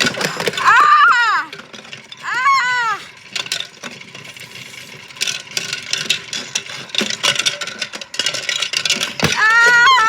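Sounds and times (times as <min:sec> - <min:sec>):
toy washing machine rattling: 0:00.0 - 0:10.0.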